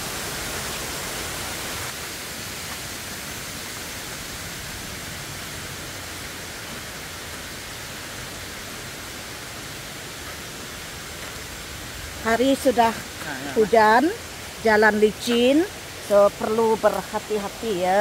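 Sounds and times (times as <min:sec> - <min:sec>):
rain falling on forest: 0:00.0 - 0:18.0.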